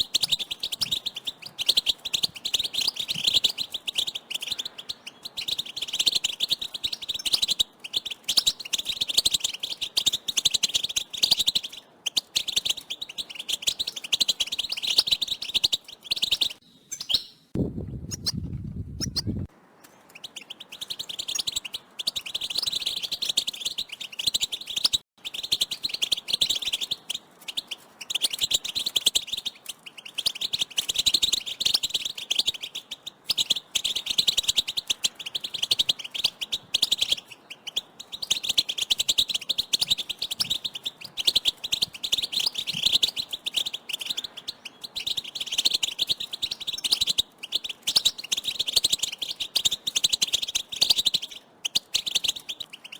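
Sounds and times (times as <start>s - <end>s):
finches chirping and twittering: 0.0s - 17.5s, 18.1s - 52.9s.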